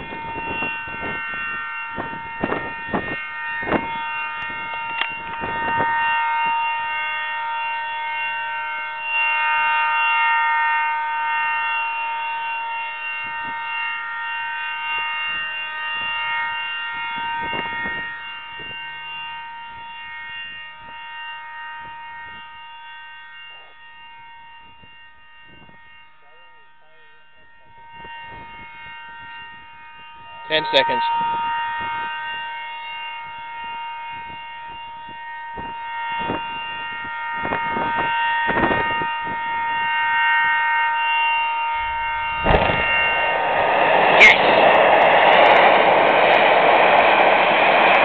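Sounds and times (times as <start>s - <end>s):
warning siren steady tone: 0.0s - 48.0s.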